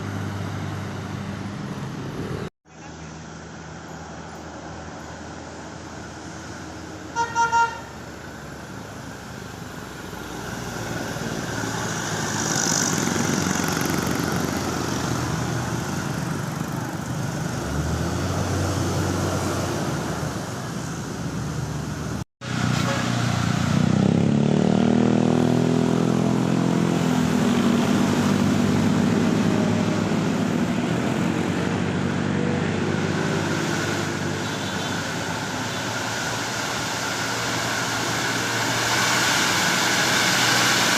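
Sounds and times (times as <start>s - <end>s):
vehicles passing: 0.0s - 40.9s
heavy engine passing close: 7.9s - 40.9s.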